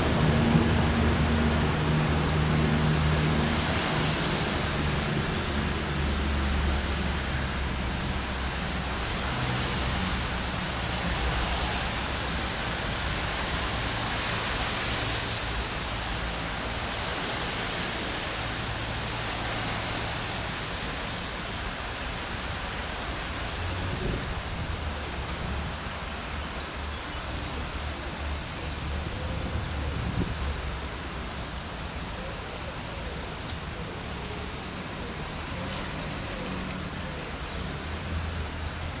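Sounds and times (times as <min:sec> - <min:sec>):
rain falling: 0:00.0 - 0:39.0.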